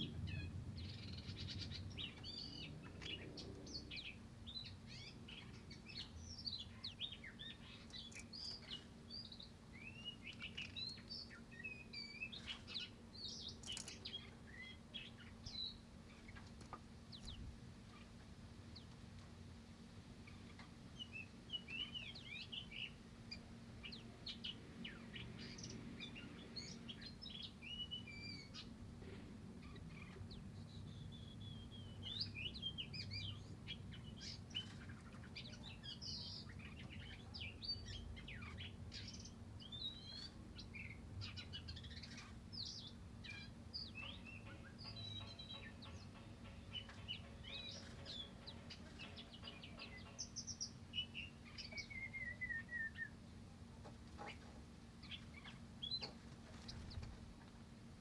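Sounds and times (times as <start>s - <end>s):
faint low hum: 0.0s - 58.0s
songbirds chirping and warbling: 0.0s - 58.0s.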